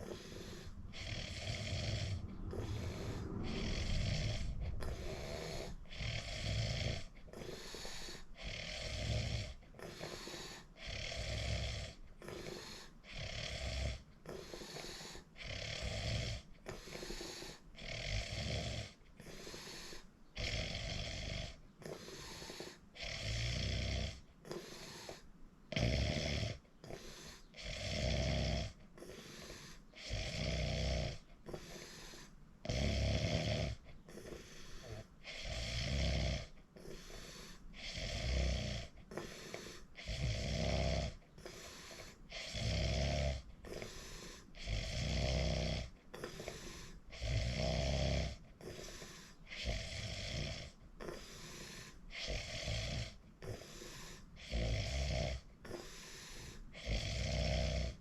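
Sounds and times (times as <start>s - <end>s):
person snoring: 0.0s - 58.0s.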